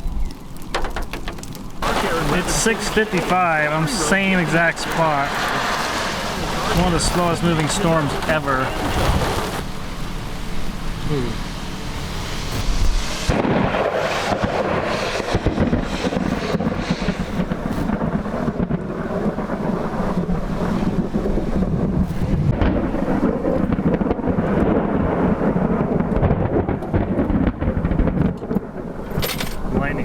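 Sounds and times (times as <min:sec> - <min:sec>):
rain falling: 0:00.0 - 0:30.0
thunder rumbling: 0:00.0 - 0:30.0.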